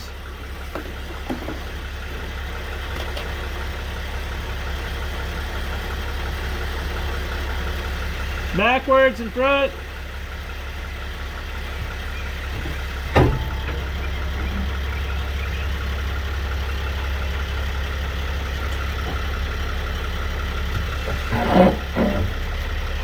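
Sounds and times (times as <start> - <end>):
van idling: 0.0 - 23.0
sharp drivetrain clunk: 0.1 - 9.2, 9.8 - 23.0.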